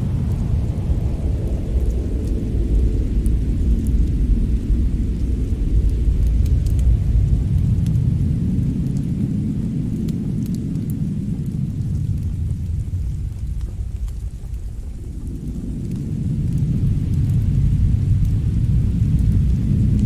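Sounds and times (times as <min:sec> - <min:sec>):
deep steady rumble: 0:00.0 - 0:20.0
wood fire crackling: 0:00.0 - 0:20.0.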